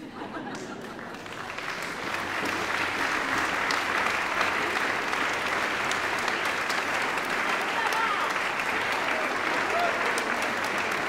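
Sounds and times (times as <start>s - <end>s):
crowd applauding: 0.3s - 11.0s.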